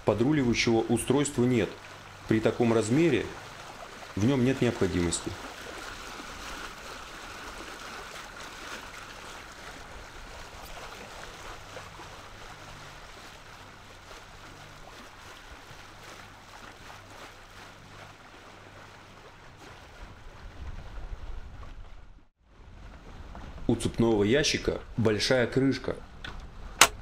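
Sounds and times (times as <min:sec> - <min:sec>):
water rushing along hull: 0:00.0 - 0:27.0.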